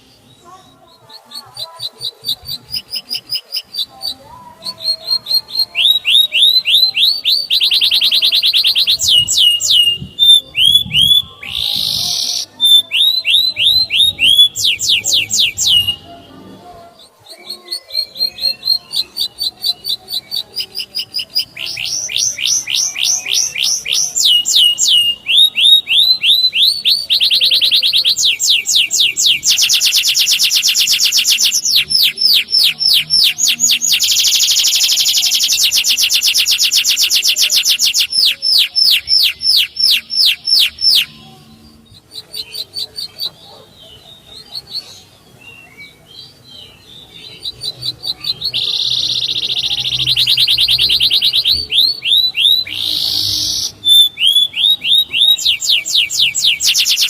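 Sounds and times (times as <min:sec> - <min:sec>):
canary singing in rolled trills: 0:00.0 - 0:57.0.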